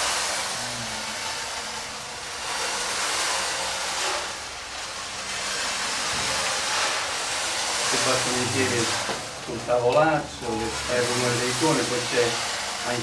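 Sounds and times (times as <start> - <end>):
storm effect rushing hiss: 0.0 - 13.0.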